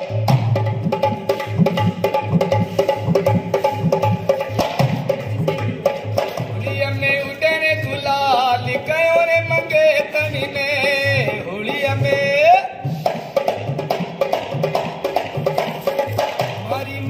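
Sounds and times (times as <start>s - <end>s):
hand drum folk rhythm: 0.0s - 17.0s.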